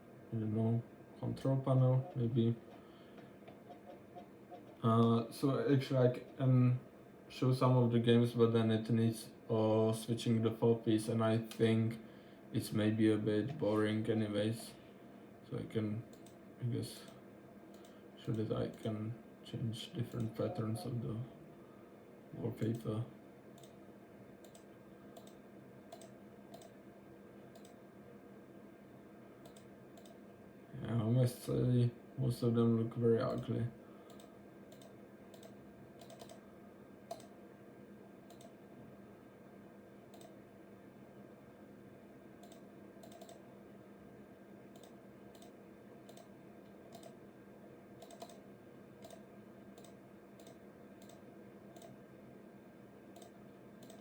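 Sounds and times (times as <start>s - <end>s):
faint computer hum: 0.0s - 54.0s.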